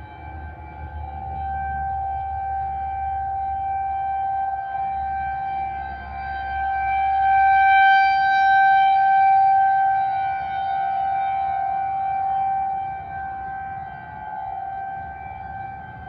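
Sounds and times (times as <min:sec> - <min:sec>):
rotating warning siren: 0:00.0 - 0:16.0.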